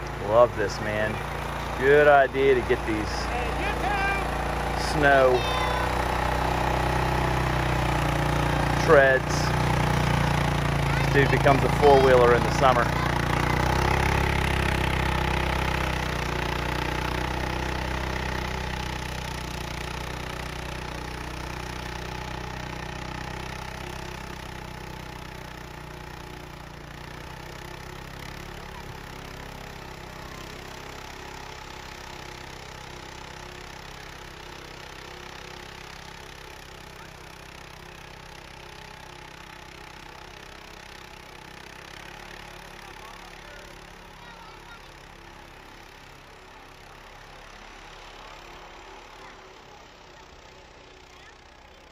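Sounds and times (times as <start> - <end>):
snow vehicle engine driving: 0.0 - 51.9.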